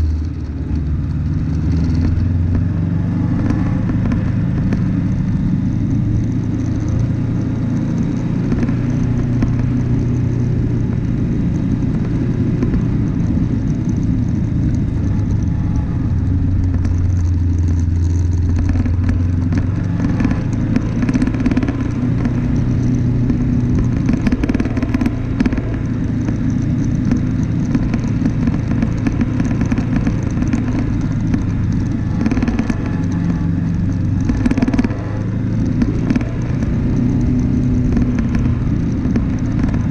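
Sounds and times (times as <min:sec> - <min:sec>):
vehicle body rattling: 0:00.0 - 0:39.9
vehicle engine running: 0:00.0 - 0:39.9.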